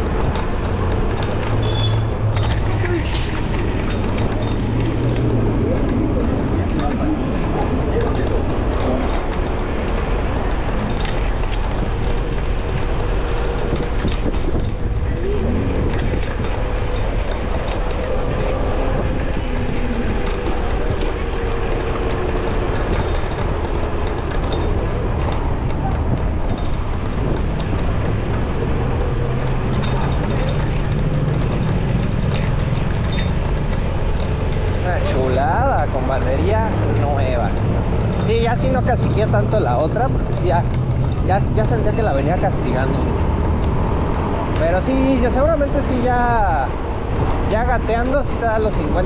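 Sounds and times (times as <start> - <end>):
street traffic: 0.0 - 49.0
wind on microphone: 0.0 - 49.0.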